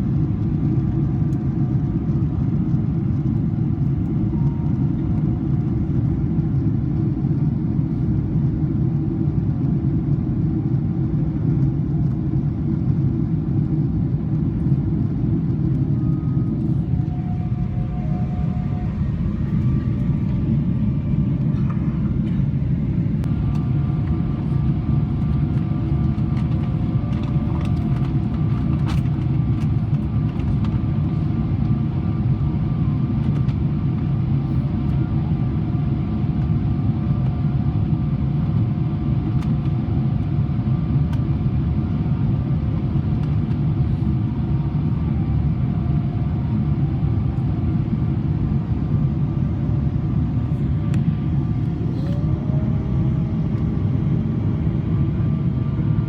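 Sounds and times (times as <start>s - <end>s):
airplane cabin rumble: 0.0s - 56.0s
faint steady whine: 0.0s - 56.0s.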